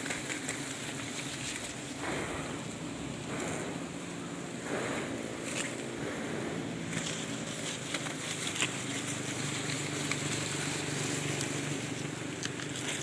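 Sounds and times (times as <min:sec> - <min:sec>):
bees buzzing: 0:00.0 - 0:13.0
leaves brushing: 0:00.0 - 0:13.0.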